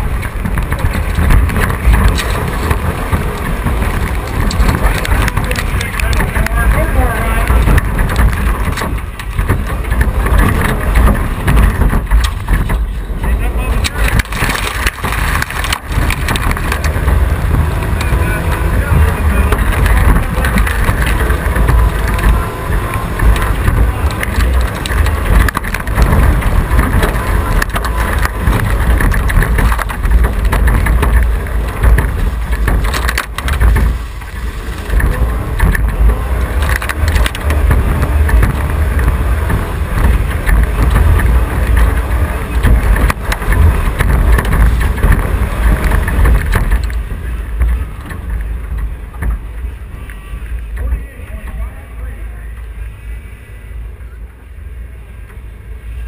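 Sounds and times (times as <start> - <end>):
wind buffeting microphone: 0.0 - 52.9
truck engine running hard: 0.0 - 56.0.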